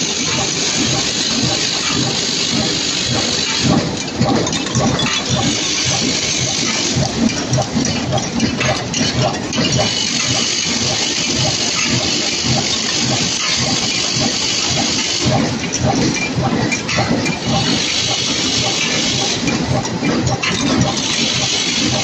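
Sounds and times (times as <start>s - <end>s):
machine running: 0.0s - 22.0s
screws clattering in metal drum: 0.5s - 22.0s.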